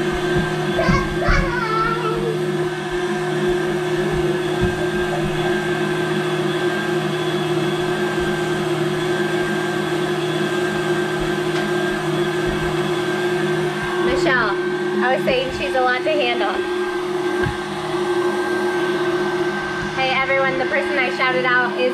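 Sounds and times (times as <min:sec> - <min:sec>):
stand mixer motor hum: 0:00.0 - 0:21.9.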